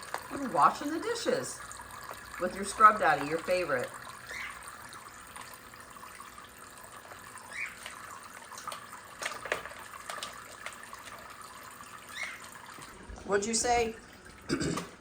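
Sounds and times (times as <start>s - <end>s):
water splashing and dripping: 0.0s - 15.0s.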